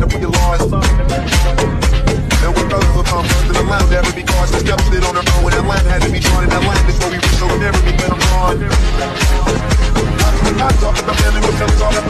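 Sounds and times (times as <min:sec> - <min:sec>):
song with heavy beat: 0:00.0 - 0:12.0.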